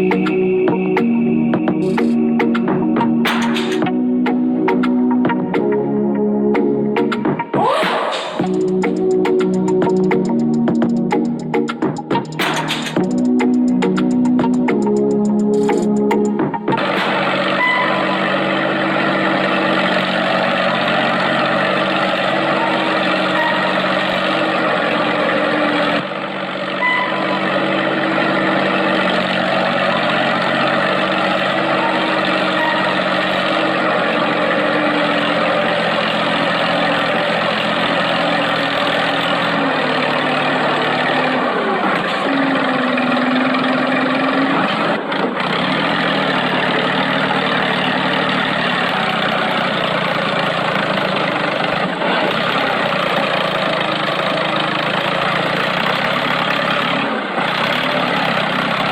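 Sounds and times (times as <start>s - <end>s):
tractor engine running: 8.4s - 58.9s.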